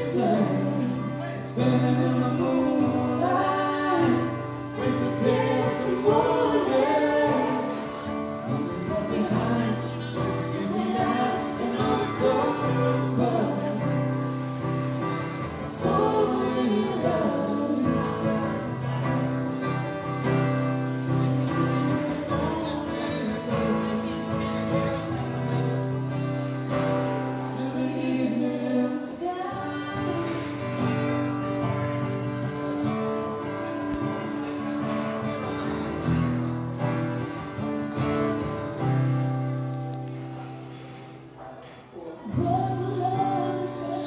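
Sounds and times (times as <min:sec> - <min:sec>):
live band playing slow ballad: 0:00.0 - 0:44.0
plucked guitar: 0:00.0 - 0:44.0.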